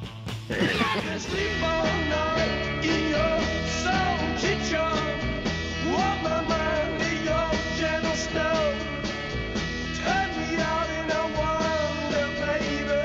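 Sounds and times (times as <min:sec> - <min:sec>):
rock and roll song: 0:00.0 - 0:13.0.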